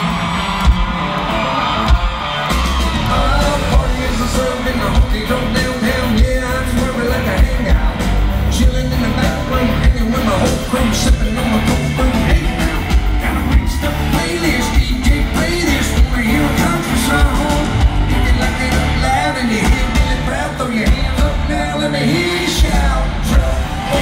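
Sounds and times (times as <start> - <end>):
steady drum beat: 0.0 - 1.2, 1.9 - 24.0
country rock band playing: 0.0 - 24.0
man singing: 3.0 - 24.0.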